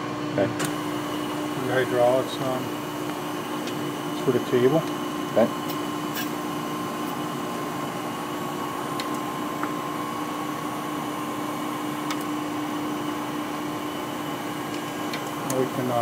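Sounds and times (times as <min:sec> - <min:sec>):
hydraulic machine humming: 0:00.0 - 0:16.0.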